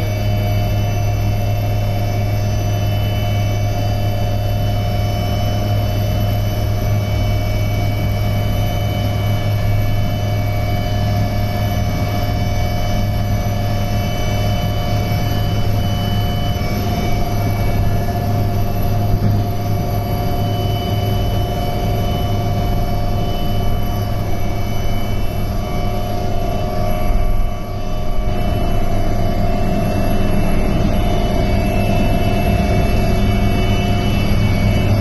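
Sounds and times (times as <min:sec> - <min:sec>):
helicopter cabin hum and whine: 0:00.0 - 0:35.0.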